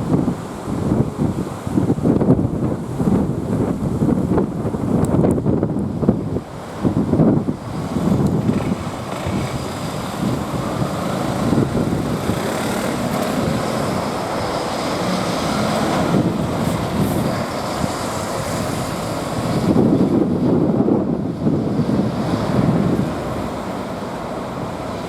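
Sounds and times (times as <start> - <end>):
road traffic passing: 0.0 - 25.0
wind buffeting microphone: 0.0 - 25.0.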